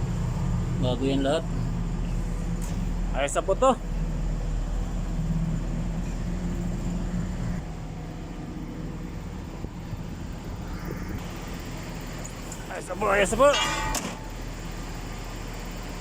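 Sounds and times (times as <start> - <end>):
diesel truck engine idling: 0.0 - 13.5.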